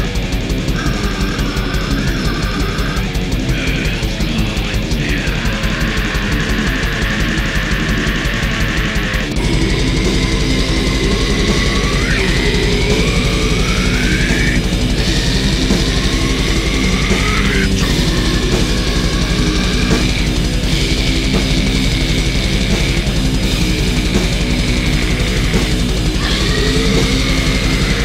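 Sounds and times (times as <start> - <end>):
distorted heavy metal music: 0.0 - 28.0.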